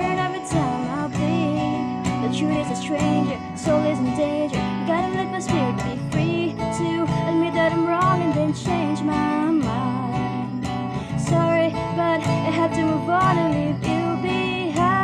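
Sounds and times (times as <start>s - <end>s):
strummed acoustic guitar: 0.0s - 15.0s
woman singing: 0.0s - 15.0s.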